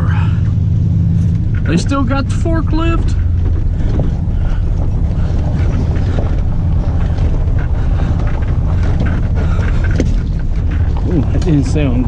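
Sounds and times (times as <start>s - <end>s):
truck engine and road rumble: 0.0s - 12.0s
wind buffeting microphone: 0.5s - 12.0s.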